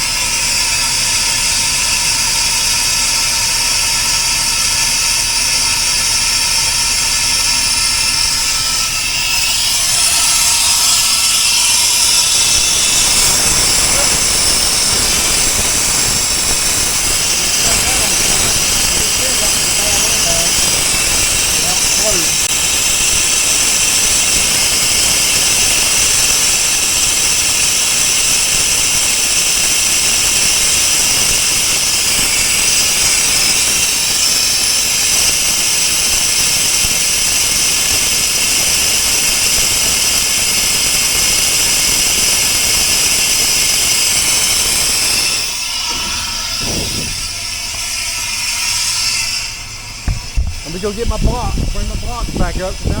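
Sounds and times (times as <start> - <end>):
compressed air hissing: 0.0 - 53.0.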